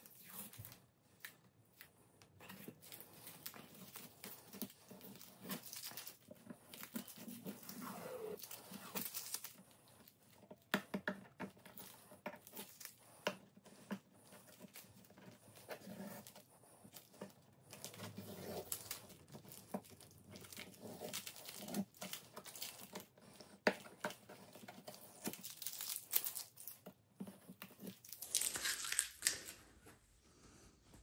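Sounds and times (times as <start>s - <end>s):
crinkling and tearing handling noise: 0.0s - 29.7s.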